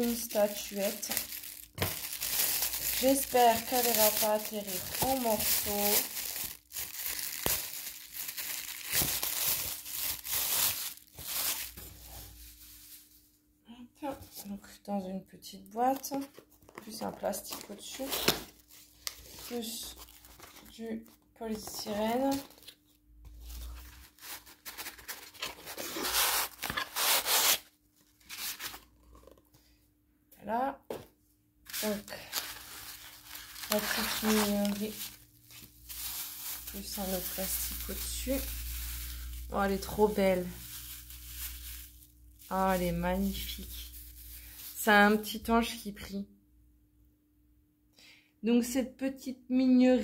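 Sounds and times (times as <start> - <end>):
plastic packaging crinkling: 0.0 - 13.2, 16.0 - 29.4, 31.7 - 45.3.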